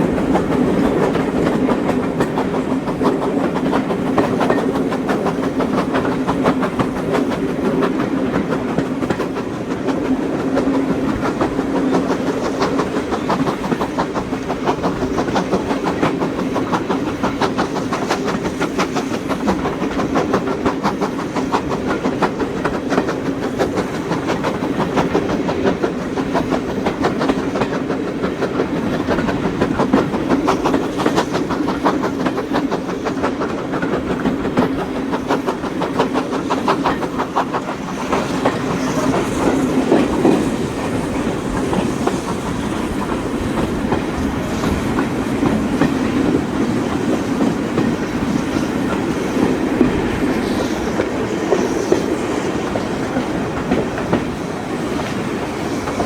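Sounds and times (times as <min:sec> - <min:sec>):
steam train running rumble: 0:00.0 - 0:56.0
wheels clicking on track: 0:00.0 - 0:56.0.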